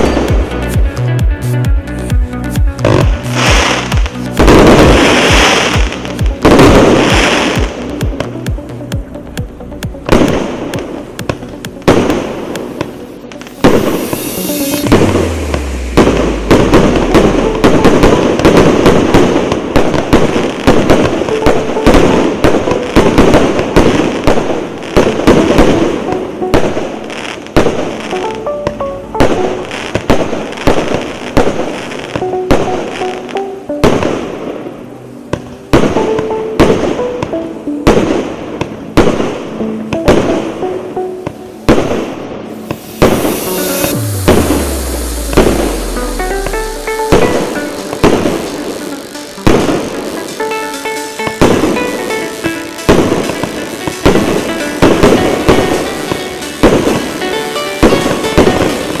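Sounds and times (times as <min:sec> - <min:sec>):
firework barrage: 0:00.0 - 0:01.0, 0:02.8 - 0:08.8, 0:10.0 - 0:40.7, 0:41.6 - 0:59.0.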